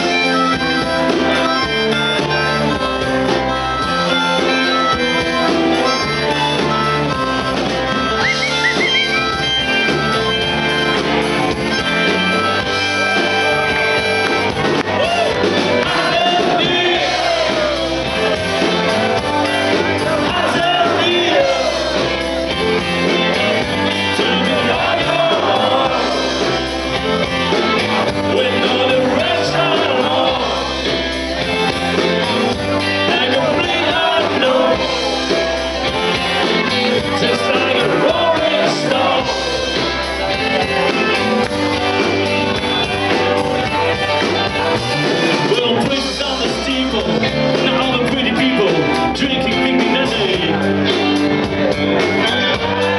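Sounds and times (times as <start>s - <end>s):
rock band playing: 0.0s - 52.9s
person singing: 8.2s - 51.0s.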